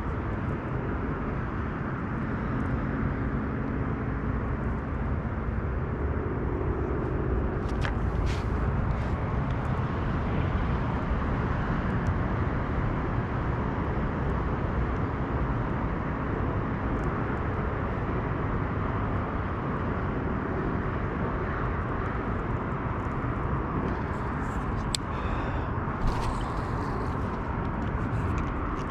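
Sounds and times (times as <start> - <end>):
wind rumble on microphone: 0.0 - 28.9.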